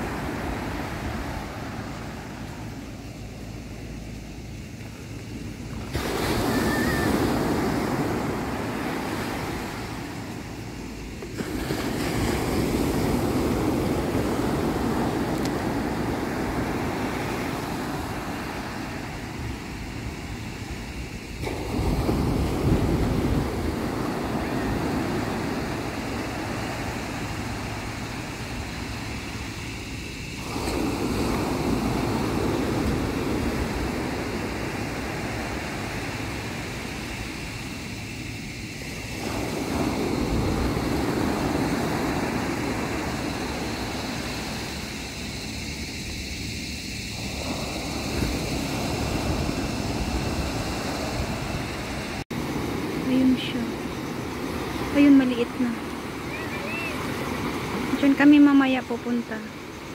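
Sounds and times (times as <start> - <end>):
sea waves washing in: 0.0 - 59.9
wind on microphone: 0.0 - 59.9.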